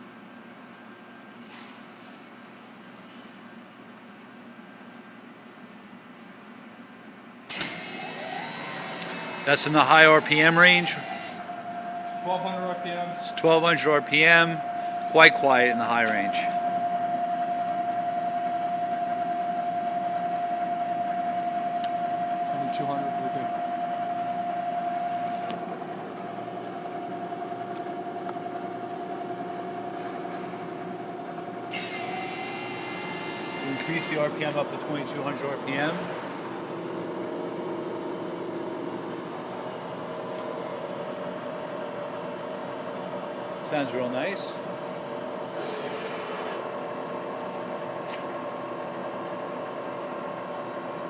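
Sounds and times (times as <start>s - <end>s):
mill spindle whine: 7.5s - 51.0s.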